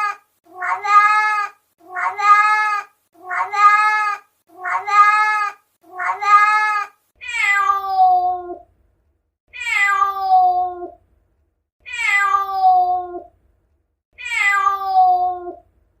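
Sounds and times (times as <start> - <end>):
cat meowing: 0.0 - 8.6, 9.5 - 11.0, 11.8 - 13.3, 14.2 - 15.6.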